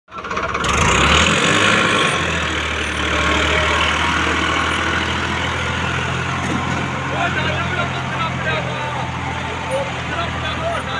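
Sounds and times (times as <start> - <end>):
tractor diesel engine under load: 0.1 - 10.9.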